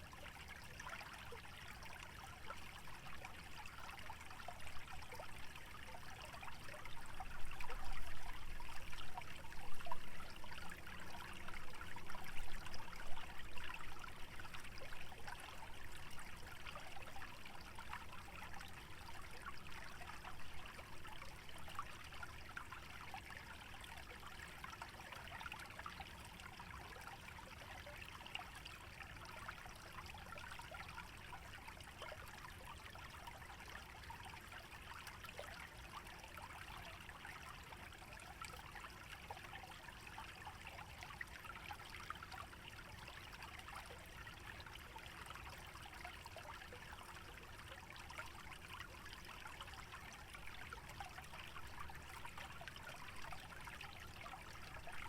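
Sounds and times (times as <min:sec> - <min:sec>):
stream trickling and babbling: 0:00.0 - 0:55.0.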